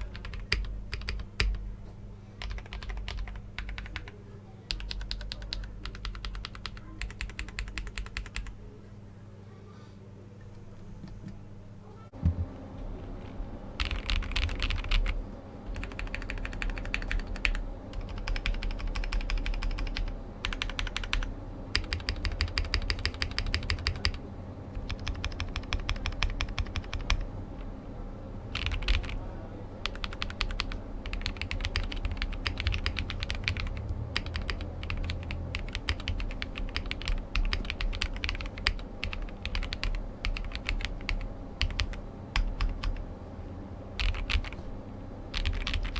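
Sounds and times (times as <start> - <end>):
mechanical keyboard typing: 0.0 - 1.6, 2.4 - 8.6, 13.2 - 27.7, 28.5 - 29.2, 29.8 - 43.0, 44.0 - 44.6, 45.3 - 45.9.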